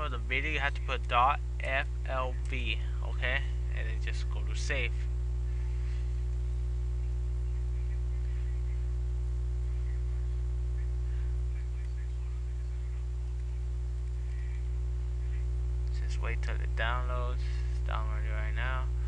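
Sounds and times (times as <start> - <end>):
low electrical mains hum: 0.0 - 19.0.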